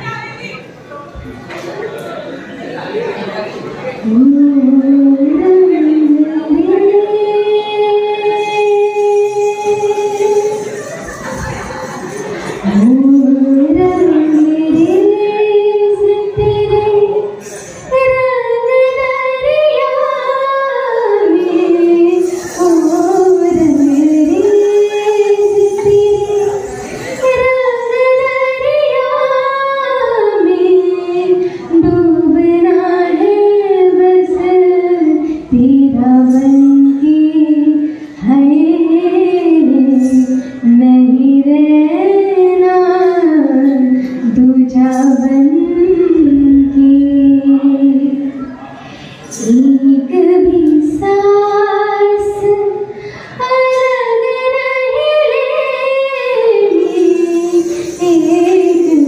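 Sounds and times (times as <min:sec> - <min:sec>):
woman singing into a microphone: 0:04.0 - 0:48.6, 0:49.3 - 0:59.0.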